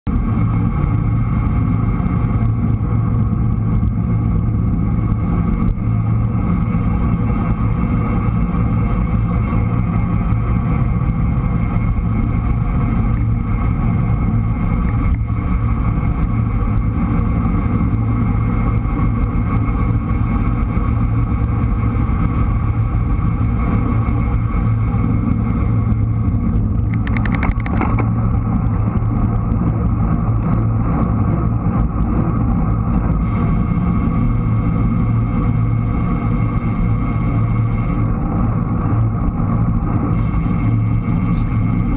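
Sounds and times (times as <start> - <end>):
tyres rumbling on asphalt: 0.0 - 41.9
wind on microphone: 0.1 - 41.9.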